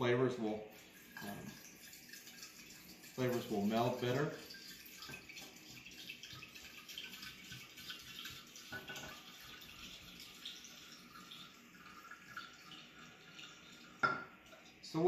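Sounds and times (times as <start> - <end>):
wine pouring into a glass decanter: 0.7 - 15.0.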